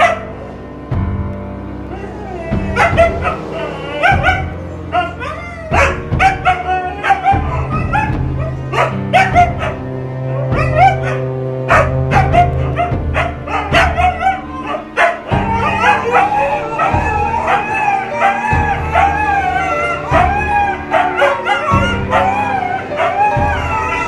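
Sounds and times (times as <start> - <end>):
dogs yipping and whining: 0.0 - 0.8, 1.9 - 24.0
background music with held notes: 0.0 - 24.0.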